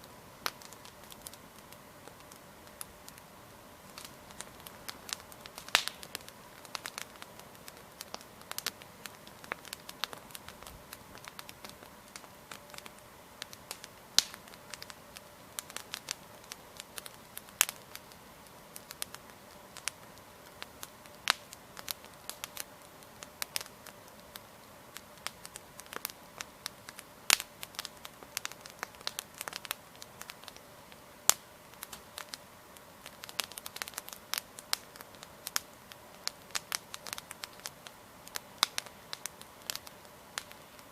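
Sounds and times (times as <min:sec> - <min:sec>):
campfire crackling and popping: 0:00.0 - 0:40.9
faint steady background noise: 0:00.0 - 0:40.9.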